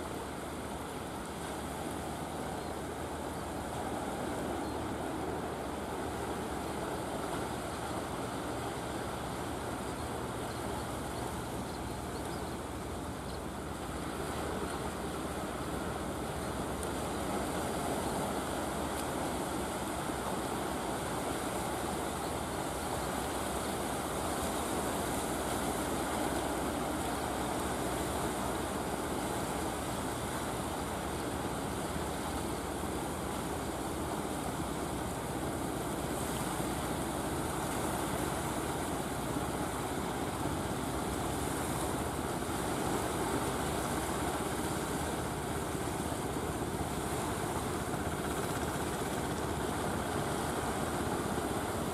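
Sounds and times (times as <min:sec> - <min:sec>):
waves washing: 0:00.0 - 0:51.9.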